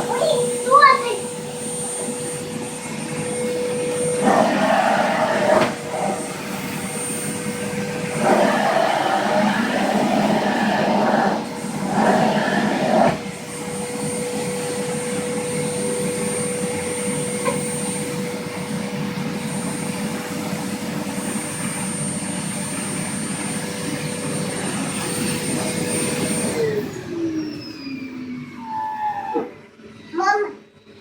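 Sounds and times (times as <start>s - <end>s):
vacuum cleaner whining: 0.0s - 31.0s.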